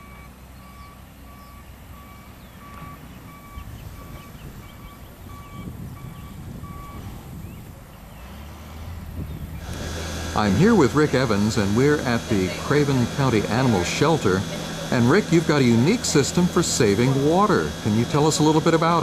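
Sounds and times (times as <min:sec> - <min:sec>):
vehicle back-up alarm beeping: 0:00.0 - 0:08.1, 0:09.3 - 0:19.0
low engine rumble: 0:00.0 - 0:19.0.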